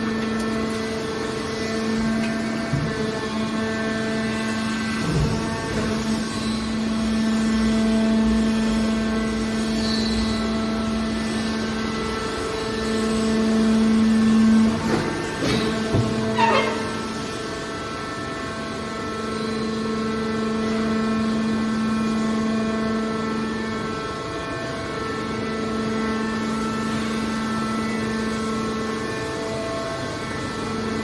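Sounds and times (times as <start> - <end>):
hydraulic power unit humming: 0.0 - 31.0.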